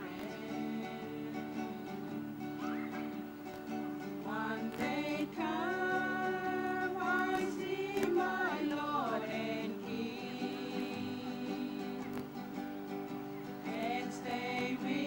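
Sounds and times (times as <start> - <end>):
people singing: 0.0 - 3.2, 4.0 - 15.0
acoustic guitar strumming: 0.0 - 15.0.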